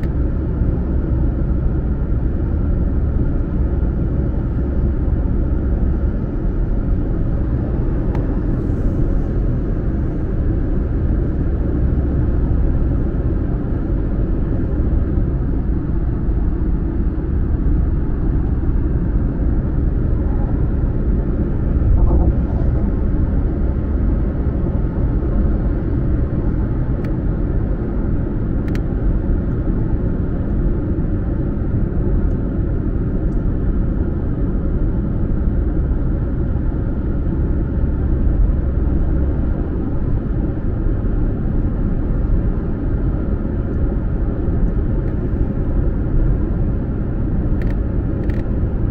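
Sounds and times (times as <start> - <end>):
car cabin road rumble: 0.0 - 48.9.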